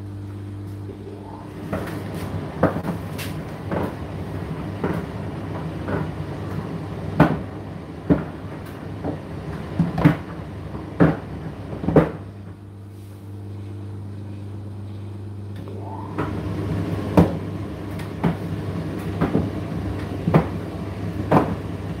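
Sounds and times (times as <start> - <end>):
tumble dryer motor hum: 0.0 - 22.0.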